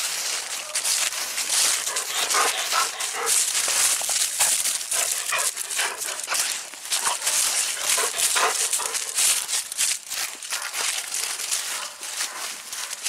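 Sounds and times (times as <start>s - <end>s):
dry leaves rustling and crunching: 0.0s - 13.0s.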